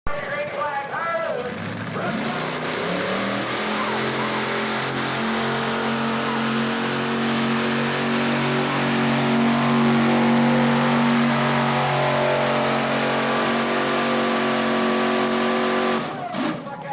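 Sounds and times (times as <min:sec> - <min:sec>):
tractor engine running hard: 0:00.1 - 0:16.9.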